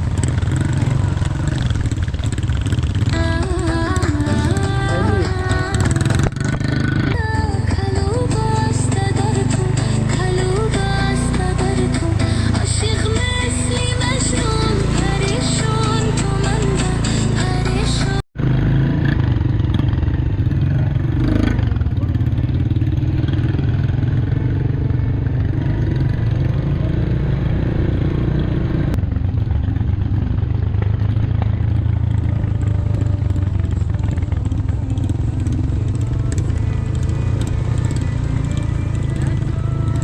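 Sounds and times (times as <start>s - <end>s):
motorcycle engine droning: 0.0s - 40.0s.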